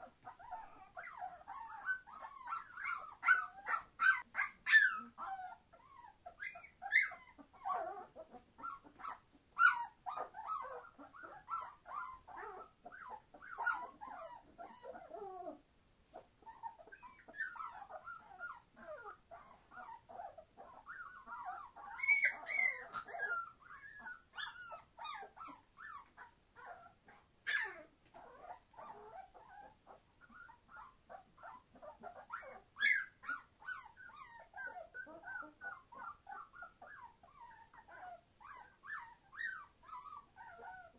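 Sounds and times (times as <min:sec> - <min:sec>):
puppies crying and squealing: 0:00.0 - 0:15.6, 0:16.2 - 0:40.9.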